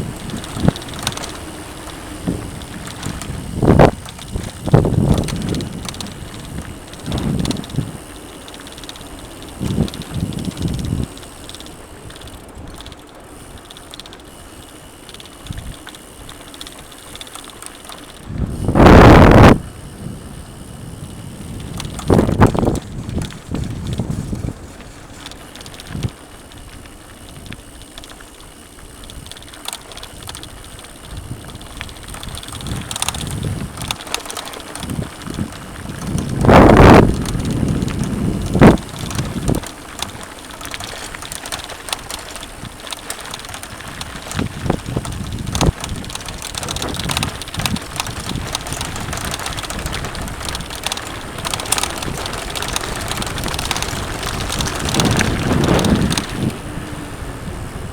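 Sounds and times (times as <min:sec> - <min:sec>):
wind on microphone: 0:00.0 - 0:12.9, 0:18.2 - 0:26.2, 0:30.0 - 0:57.9
bike parts rattling: 0:00.0 - 0:57.7
bike jolts: 0:00.0 - 0:57.9
bike tyres rumbling on dirt: 0:00.0 - 0:57.9.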